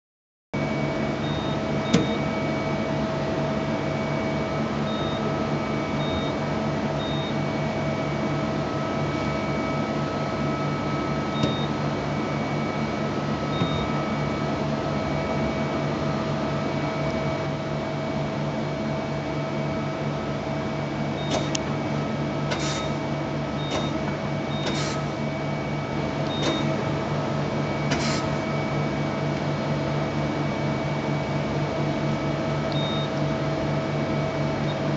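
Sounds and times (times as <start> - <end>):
lathe machine hum: 0.6 - 34.9.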